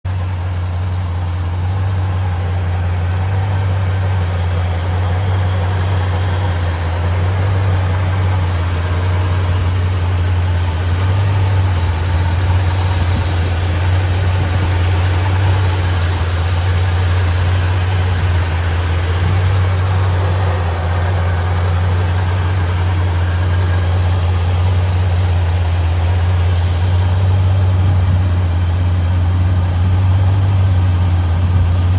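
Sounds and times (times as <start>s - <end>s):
engine idling: 0.0s - 31.9s.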